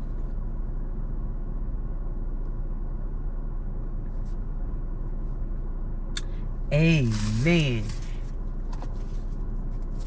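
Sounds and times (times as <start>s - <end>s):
car idling rumble: 0.0s - 10.0s.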